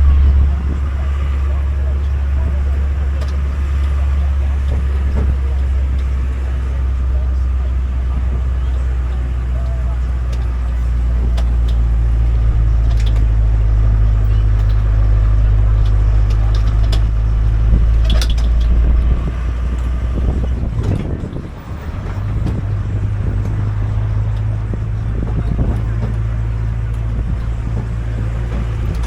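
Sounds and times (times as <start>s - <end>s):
carriage rattles and clicks: 0.0s - 29.0s
engine low rumble: 0.0s - 29.0s.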